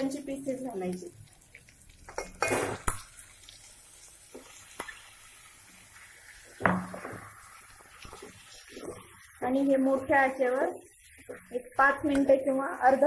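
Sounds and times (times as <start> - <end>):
chicken sizzling: 0.0 - 13.0.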